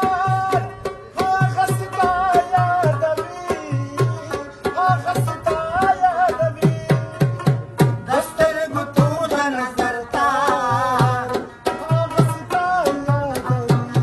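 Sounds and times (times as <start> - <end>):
man singing: 0.0 - 14.0
tabla drumming: 0.0 - 14.0.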